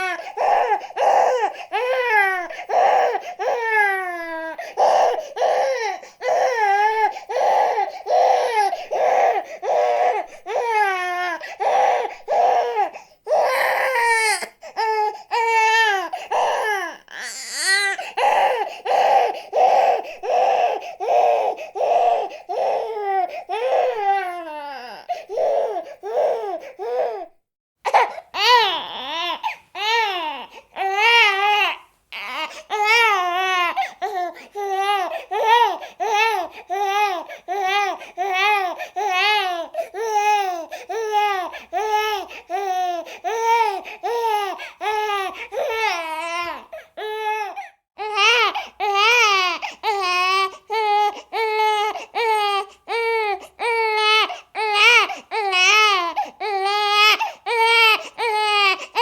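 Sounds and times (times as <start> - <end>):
infant crying: 0.0 - 59.0.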